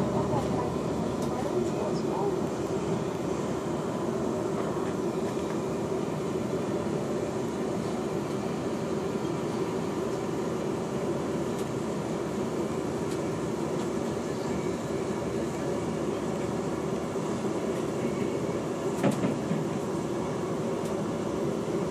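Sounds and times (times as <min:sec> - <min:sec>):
constant low hum: 0:00.0 - 0:21.9
train running noise: 0:00.0 - 0:21.9.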